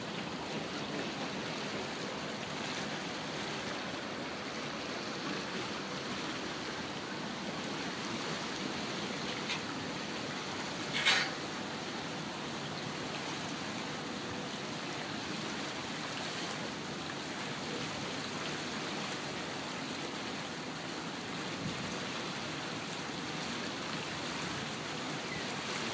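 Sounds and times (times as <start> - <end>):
water rushing past a boat: 0.0 - 25.9.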